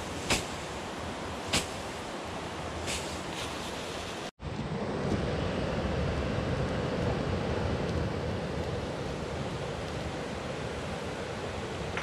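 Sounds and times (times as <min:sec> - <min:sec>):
mountain torrent rushing: 0:00.0 - 0:12.0.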